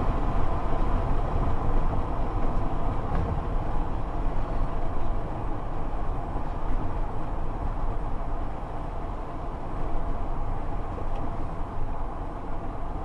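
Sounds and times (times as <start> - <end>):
strong gusty wind: 0.0 - 13.0.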